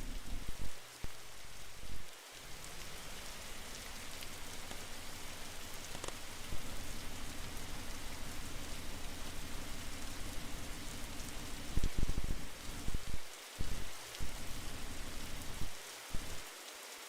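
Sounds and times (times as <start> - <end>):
air conditioner running: 2.5 - 16.5
faint clicks: 2.6 - 16.5.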